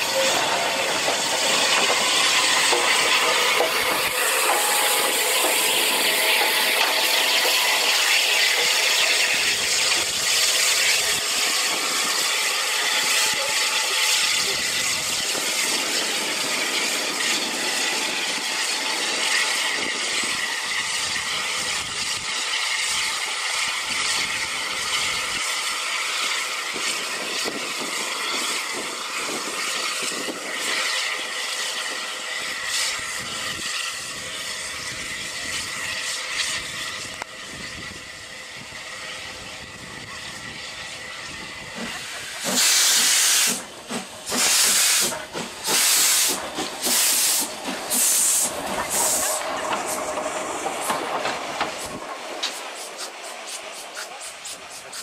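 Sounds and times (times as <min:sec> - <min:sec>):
loud blasts of steam: 0:00.0 - 0:55.0
steam hissing: 0:00.0 - 0:55.0.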